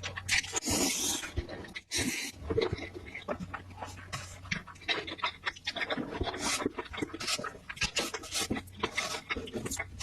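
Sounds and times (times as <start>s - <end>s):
wet chewing and smacking: 0.0s - 10.0s
slurping food: 0.1s - 10.0s.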